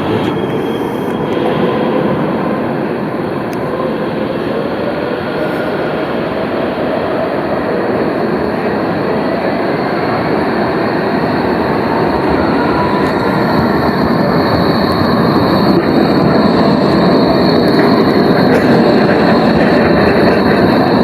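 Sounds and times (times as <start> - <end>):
thin high whine: 0.0 - 21.0
tram rumbling on rails: 0.0 - 21.0.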